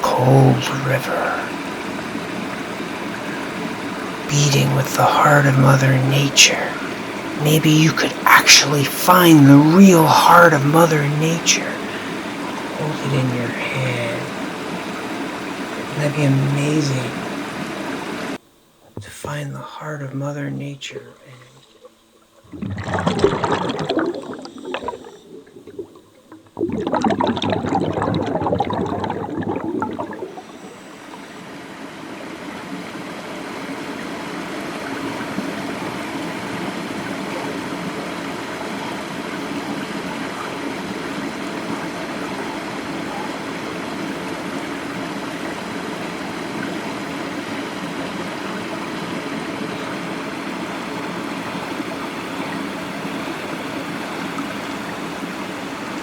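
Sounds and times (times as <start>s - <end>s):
river water flowing: 0.0s - 18.6s, 21.3s - 56.0s.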